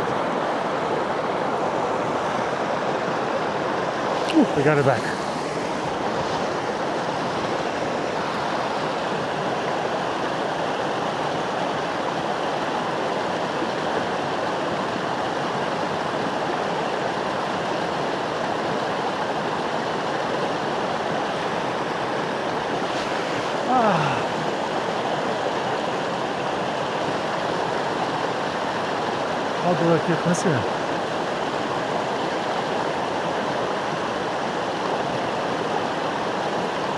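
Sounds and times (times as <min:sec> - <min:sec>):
creek water flowing: 0:00.0 - 0:36.9.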